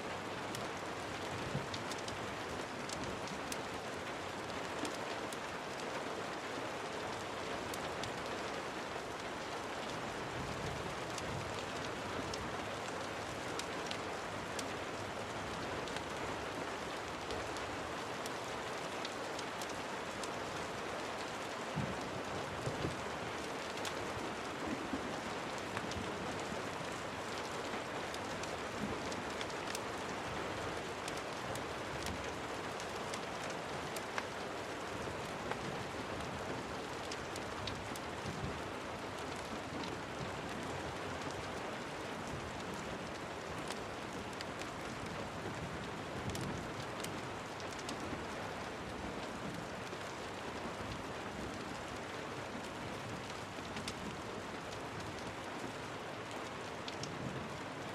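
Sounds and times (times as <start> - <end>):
steady rain hiss: 0.0 - 57.9
raindrop clicks and taps: 0.2 - 57.9.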